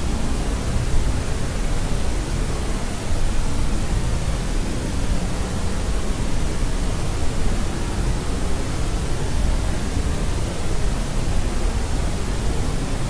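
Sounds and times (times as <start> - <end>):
deep white noise hiss: 0.0 - 13.0.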